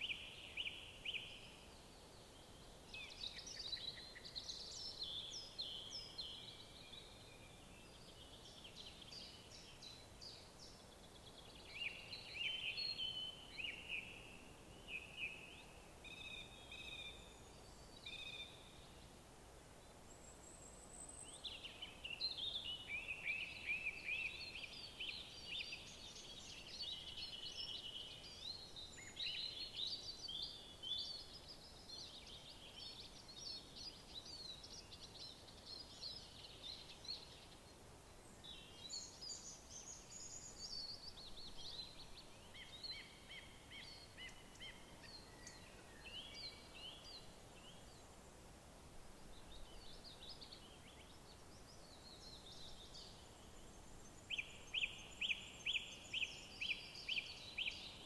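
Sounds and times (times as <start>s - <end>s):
songbirds singing: 0.0s - 48.4s, 49.2s - 58.0s
faint outdoor hiss: 0.0s - 58.0s.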